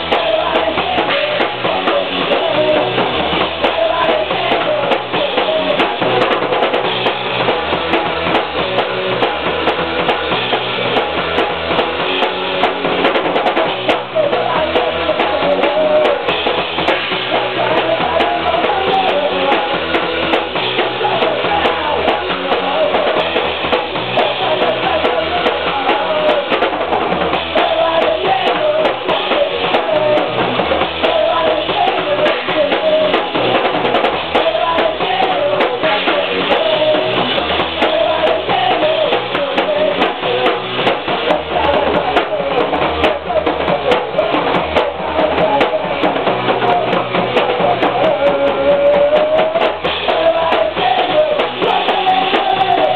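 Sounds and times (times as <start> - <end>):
drum kit beat: 0.0 - 52.9
rock band playing live: 0.0 - 52.9.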